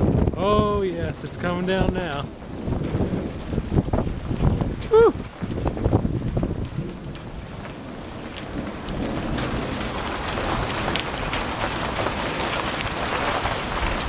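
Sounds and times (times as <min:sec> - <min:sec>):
ice pellets ticking: 0:00.0 - 0:14.0
sleet and rain hissing: 0:00.0 - 0:14.0.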